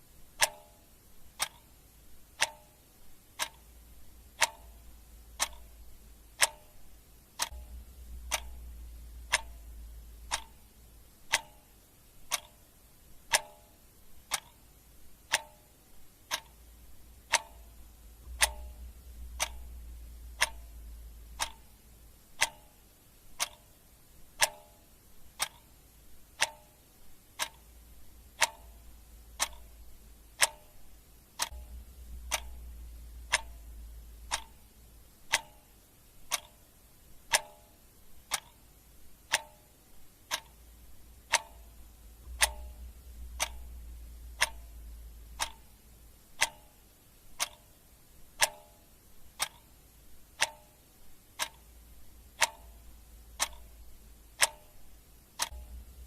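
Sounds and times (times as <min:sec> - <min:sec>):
clock ticking: 0:00.0 - 0:56.0
faint low hum: 0:00.0 - 0:56.0.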